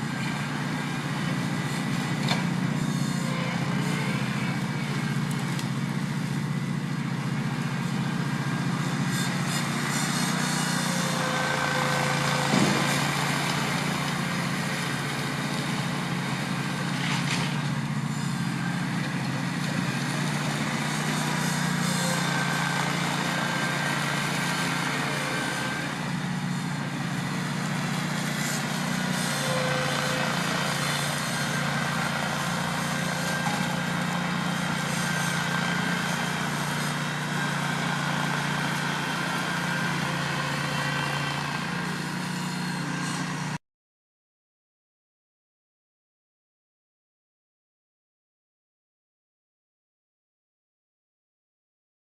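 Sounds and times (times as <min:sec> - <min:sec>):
tractor engine running: 0:00.0 - 0:43.5
mower cutting grass: 0:00.0 - 0:43.6.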